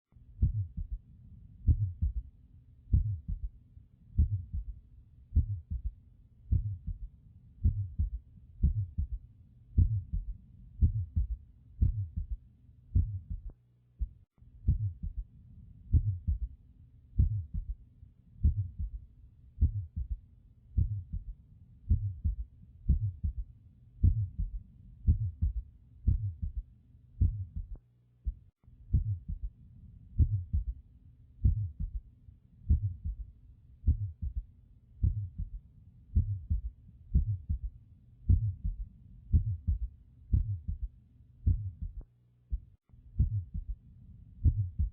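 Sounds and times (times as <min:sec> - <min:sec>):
heartbeat through a stethoscope: 0:00.4 - 0:02.3, 0:02.9 - 0:15.3, 0:15.9 - 0:17.8, 0:18.4 - 0:19.0, 0:19.6 - 0:30.8, 0:31.4 - 0:43.8, 0:44.4 - 0:44.9.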